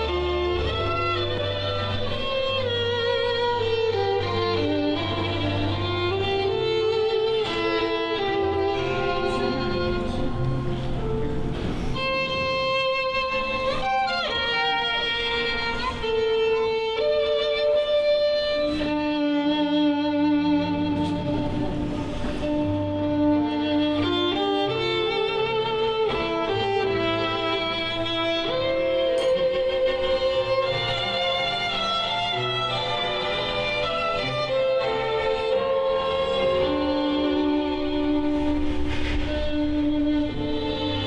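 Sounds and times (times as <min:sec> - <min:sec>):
slow instrumental string music: 0:00.0 - 0:41.0.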